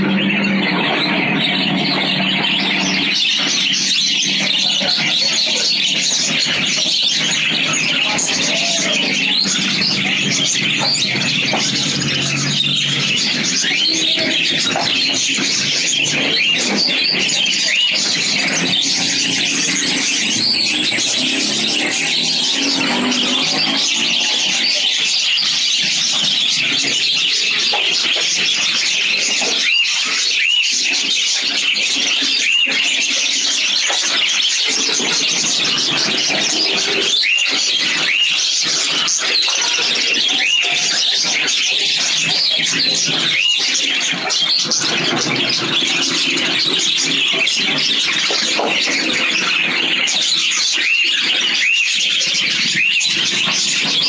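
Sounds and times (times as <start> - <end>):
small parrots chirping: 0.0 - 54.0.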